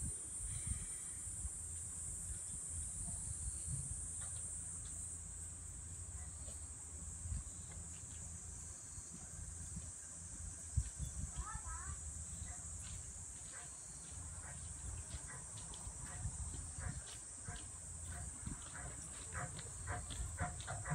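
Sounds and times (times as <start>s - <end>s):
insects buzzing: 0.0s - 20.9s.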